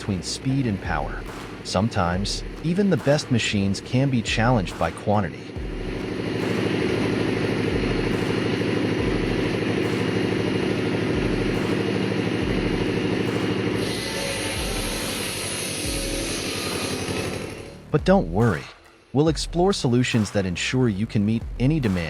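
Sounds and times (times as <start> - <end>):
engine running steadily: 0.0 - 18.7.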